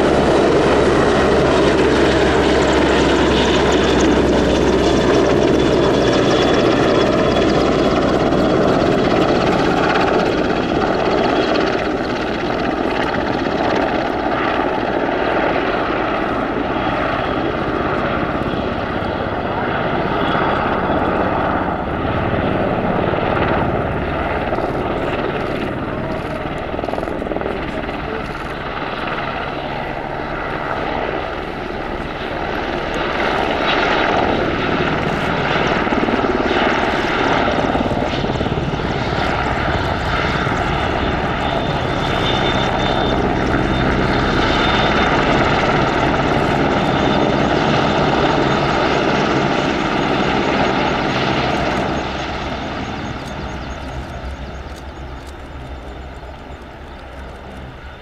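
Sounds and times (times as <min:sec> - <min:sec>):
helicopter flying past: 0:00.0 - 0:58.0.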